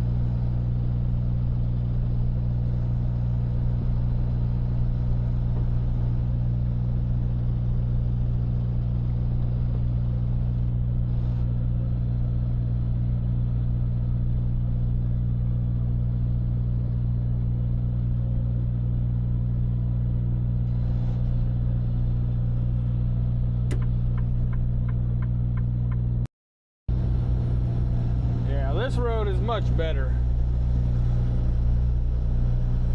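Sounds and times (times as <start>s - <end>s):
diesel truck engine drone: 0.0s - 26.3s, 26.9s - 32.9s.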